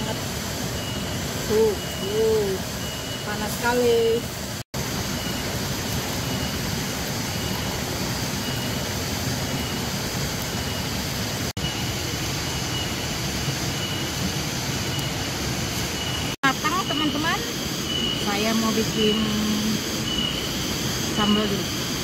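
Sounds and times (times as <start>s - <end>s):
pot boiling over fire: 0.0s - 22.0s.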